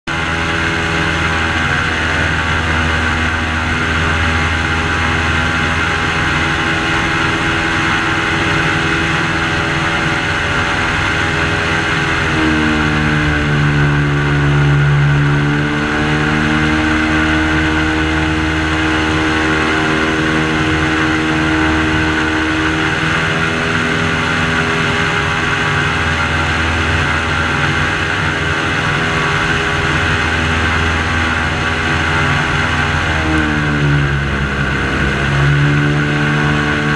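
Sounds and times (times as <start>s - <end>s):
airboat engine and propeller: 0.1s - 36.9s.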